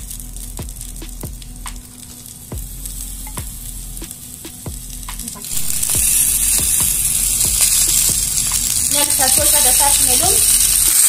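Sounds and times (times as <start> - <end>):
meat sizzling on hot stones: 0.0 - 11.0.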